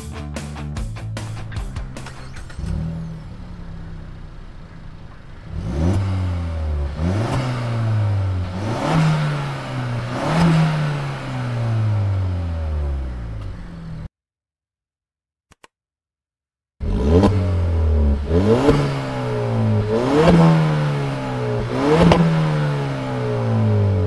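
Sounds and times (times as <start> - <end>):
car engine idling and revving: 0.8 - 14.1, 16.8 - 24.0.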